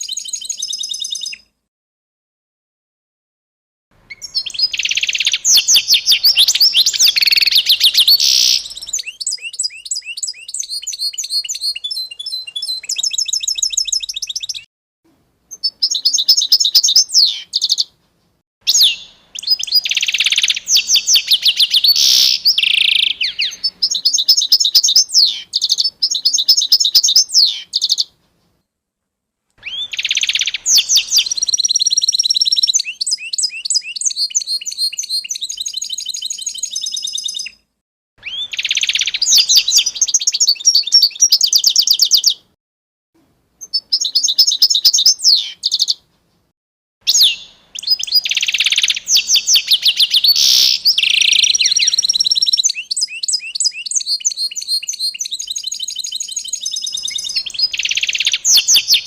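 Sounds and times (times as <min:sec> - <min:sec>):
songbirds singing trills: 0:00.0 - 0:01.5, 0:04.0 - 0:14.7, 0:15.5 - 0:17.9, 0:18.7 - 0:28.2, 0:29.6 - 0:37.6, 0:38.2 - 0:42.5, 0:43.6 - 0:46.0, 0:47.1 - 0:59.0.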